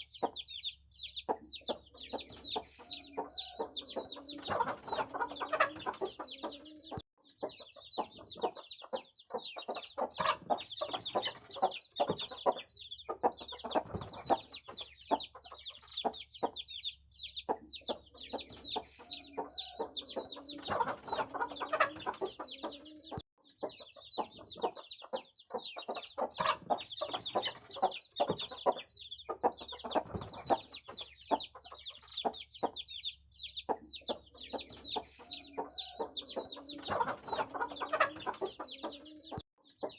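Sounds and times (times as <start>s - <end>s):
chicks peeping: 0.0s - 39.9s
clucking calls: 1.2s - 16.7s, 17.4s - 32.9s, 33.6s - 39.9s.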